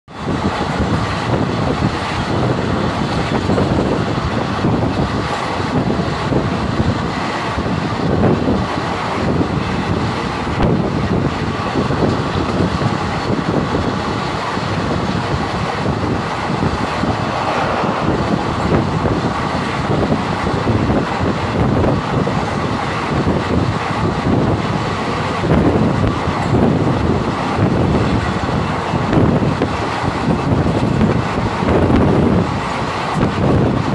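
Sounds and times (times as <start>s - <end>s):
vehicle rumble and rattle: 0.1s - 33.9s.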